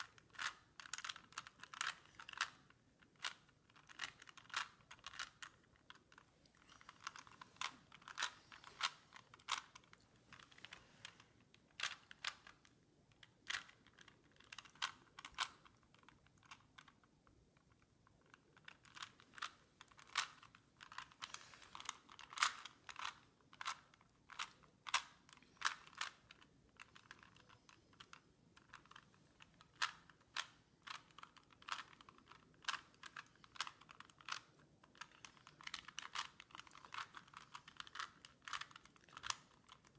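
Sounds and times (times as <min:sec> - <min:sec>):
plastic cube layers clicking: 0:00.0 - 0:17.1, 0:17.7 - 0:39.9.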